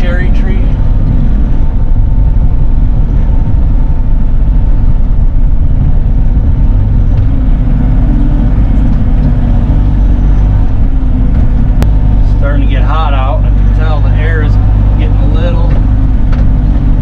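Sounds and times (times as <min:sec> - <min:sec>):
excavator diesel engine rumble: 0:00.0 - 0:17.0
thin steady whine: 0:00.0 - 0:17.0.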